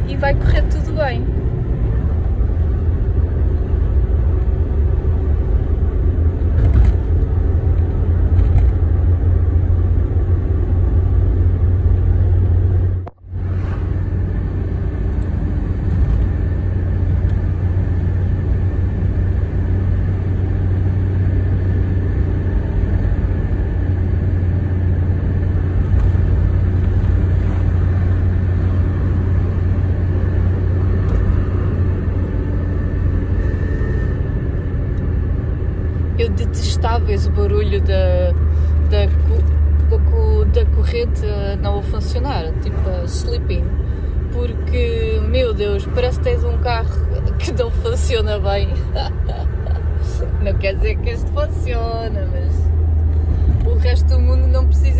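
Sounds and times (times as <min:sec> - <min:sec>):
car engine drone: 0:00.0 - 0:54.9
road rumble: 0:00.0 - 0:54.9.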